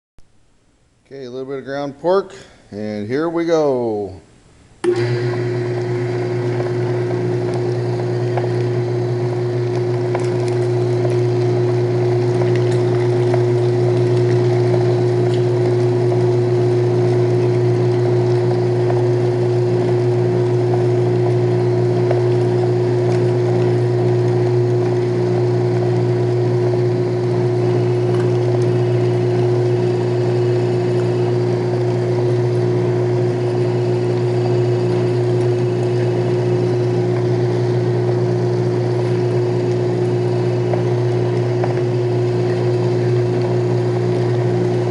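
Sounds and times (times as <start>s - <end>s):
meat grinder motor humming: 4.8s - 44.9s.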